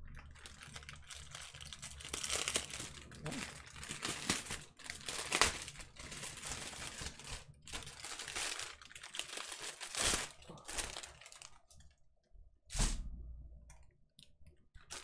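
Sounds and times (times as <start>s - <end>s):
plastic bags crinkling: 0.0s - 11.9s, 14.8s - 15.0s.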